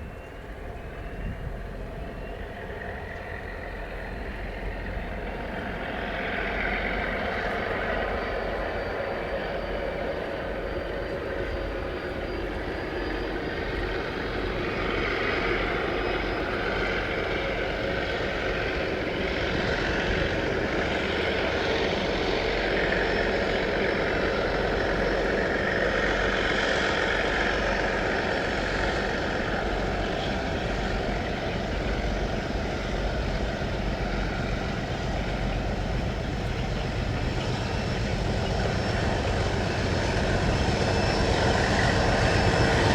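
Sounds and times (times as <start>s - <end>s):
diesel locomotive running: 0.0s - 42.9s.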